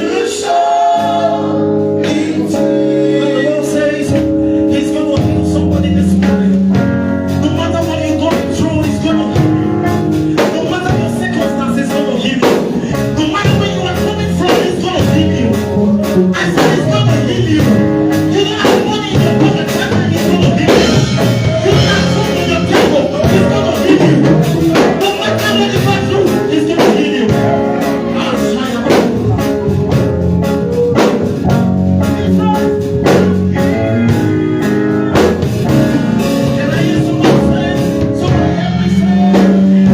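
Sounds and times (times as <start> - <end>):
band with guitar and drums: 0.0 - 39.9
gospel singing: 0.0 - 39.9.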